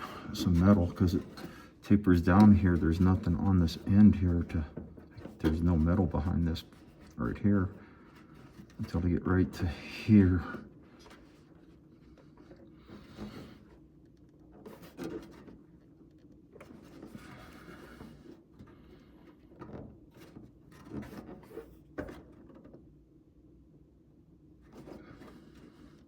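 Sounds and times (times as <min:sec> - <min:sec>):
faint rubbing and scraping: 0:00.0 - 0:15.9, 0:16.6 - 0:22.4, 0:24.6 - 0:26.0.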